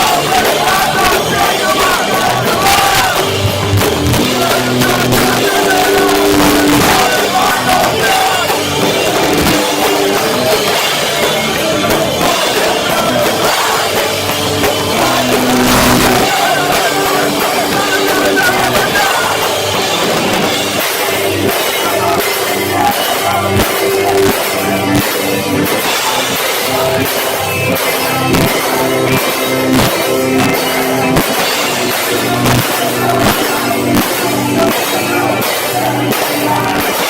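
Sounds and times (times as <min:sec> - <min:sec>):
distorted guitars: 0:00.0 - 0:37.0
drum kit: 0:00.0 - 0:37.0
vocals: 0:00.0 - 0:37.0.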